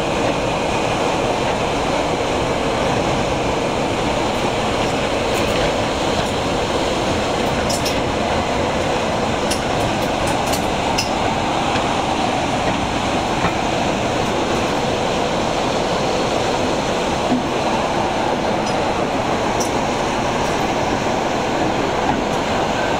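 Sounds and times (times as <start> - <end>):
locomotive engine and rolling rumble: 0.0 - 22.9
rushing air: 0.0 - 22.9.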